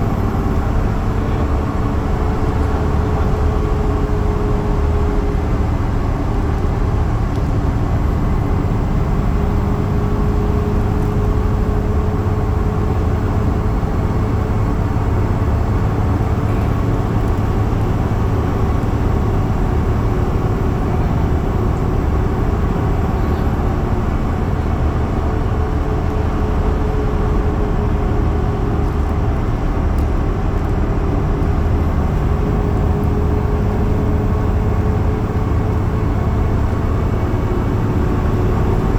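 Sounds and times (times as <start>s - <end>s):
bus engine and road rumble: 0.0s - 38.9s
constant hum: 0.0s - 38.9s.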